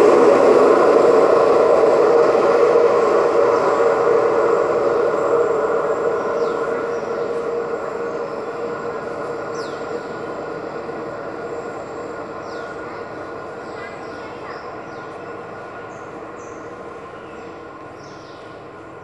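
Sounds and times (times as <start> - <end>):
train engine and wheels rumbling: 0.0 - 19.0.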